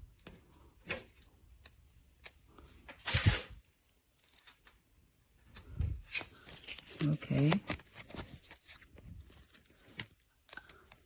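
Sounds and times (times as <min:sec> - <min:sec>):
paper label rustling and peeling: 0:00.0 - 0:11.0.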